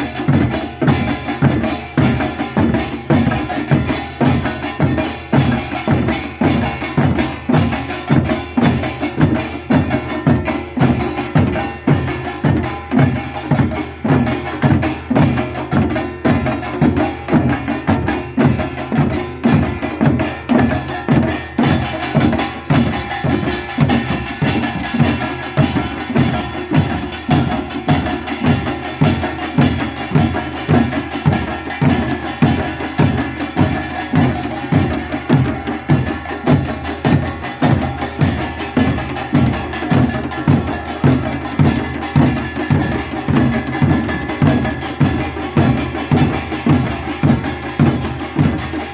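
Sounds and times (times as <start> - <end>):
drum strokes: 0.0 - 48.9
ringing metal percussion: 0.0 - 48.9.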